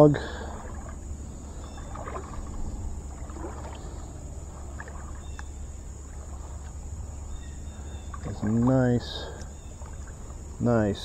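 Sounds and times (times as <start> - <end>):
insect drone: 0.0 - 11.0
water sloshing: 0.0 - 11.0.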